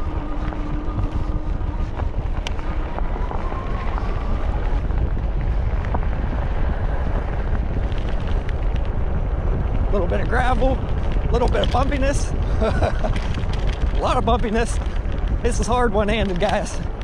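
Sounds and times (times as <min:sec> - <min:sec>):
faint motor whine: 0:00.0 - 0:17.0
tyres rumbling: 0:00.0 - 0:17.0
wind buffeting microphone: 0:00.0 - 0:17.0.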